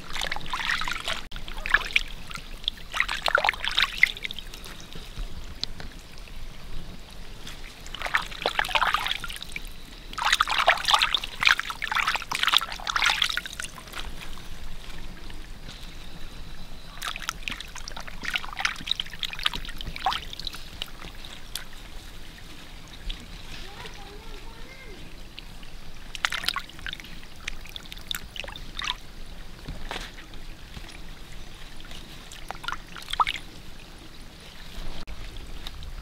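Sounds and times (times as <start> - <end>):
water splashing and dribbling: 0.0 - 36.0.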